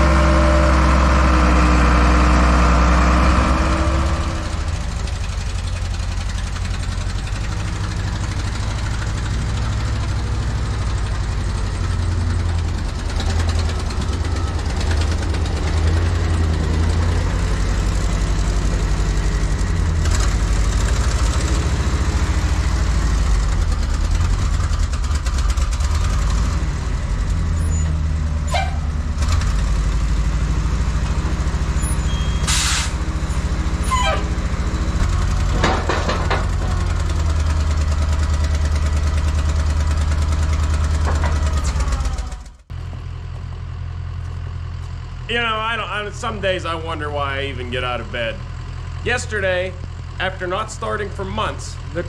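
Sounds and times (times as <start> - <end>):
dozer diesel engine: 0.0 - 52.0.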